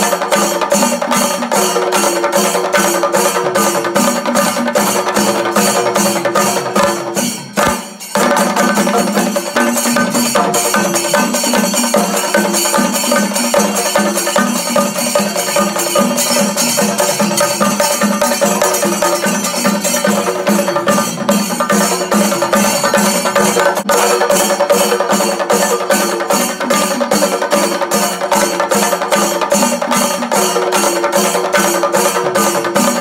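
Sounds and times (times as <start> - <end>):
fast percussion-driven music: 0.0 - 33.0.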